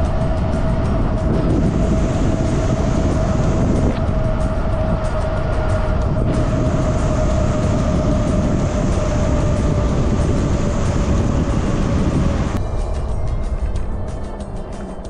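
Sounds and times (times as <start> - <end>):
bike tyres rumbling on asphalt: 0.0 - 12.6
steady whine: 0.0 - 15.0
wind rush: 0.0 - 15.0.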